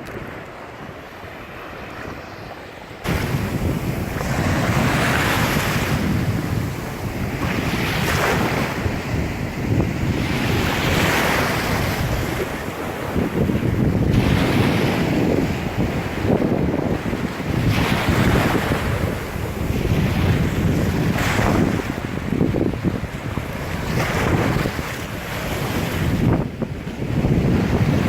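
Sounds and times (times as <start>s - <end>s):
ocean waves breaking on beach: 0.0s - 28.0s
wind rumbling on microphone: 0.0s - 28.0s.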